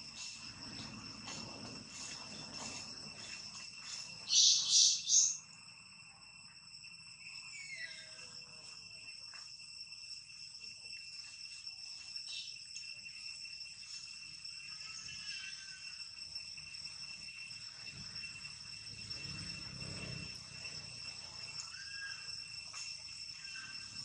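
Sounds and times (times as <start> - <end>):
insects chirping chorus: 0.0 - 24.0.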